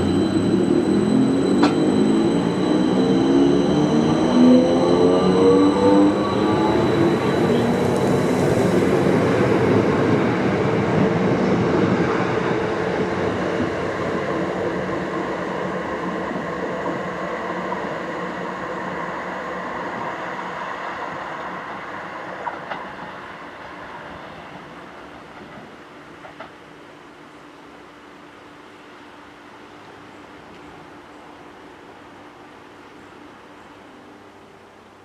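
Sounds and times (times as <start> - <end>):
electric train moving away: 0.0 - 35.0.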